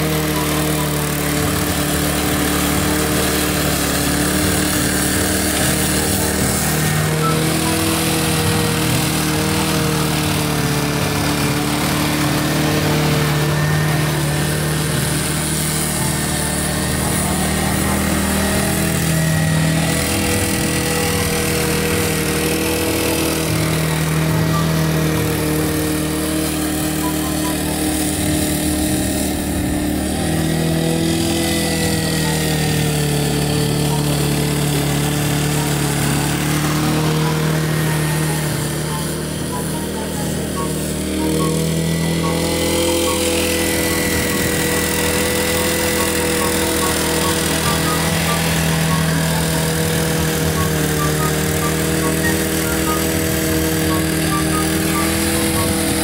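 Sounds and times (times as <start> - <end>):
lawn mower engine cutting grass: 0.0 - 56.0.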